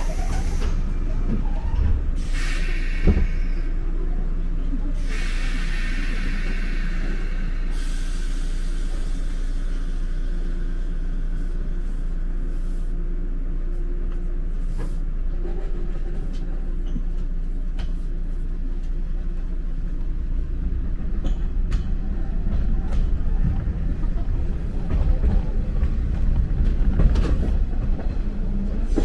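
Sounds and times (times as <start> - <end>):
train interior low rumble: 0.0 - 29.0.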